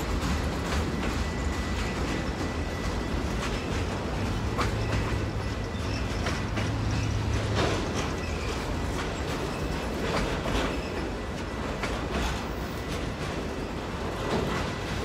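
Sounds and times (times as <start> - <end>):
steel wheels rumbling on rails: 0.0 - 15.0
wheels clicking over rail joints: 0.0 - 15.0.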